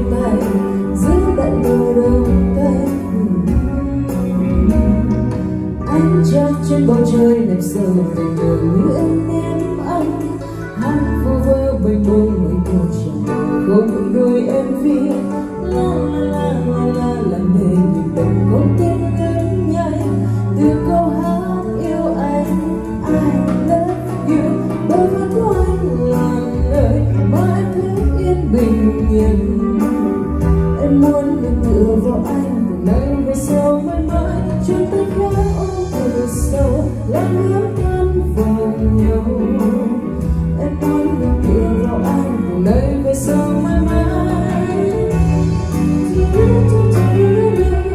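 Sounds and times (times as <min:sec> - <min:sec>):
karaoke backing track with bass: 0:00.0 - 0:47.9
woman singing a ballad: 0:00.0 - 0:47.9.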